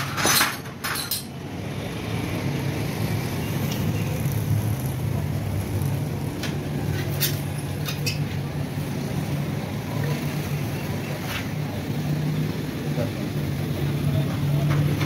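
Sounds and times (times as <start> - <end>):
road traffic engine drone: 0.0 - 15.0.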